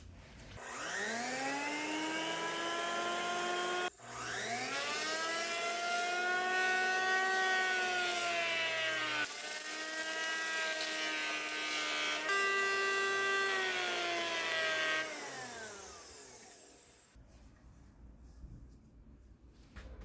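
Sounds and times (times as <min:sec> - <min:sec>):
electric planer motor whine: 0:00.6 - 0:17.1.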